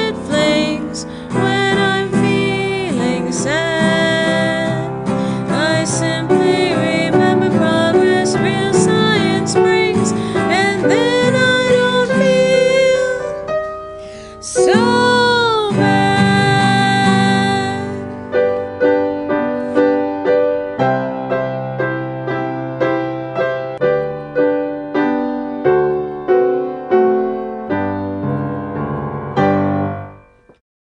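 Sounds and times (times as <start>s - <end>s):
keyboard chords: 0.0s - 30.6s.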